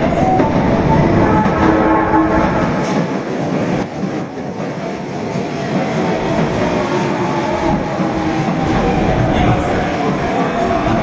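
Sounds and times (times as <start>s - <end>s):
train and platform noise: 0.0s - 11.0s.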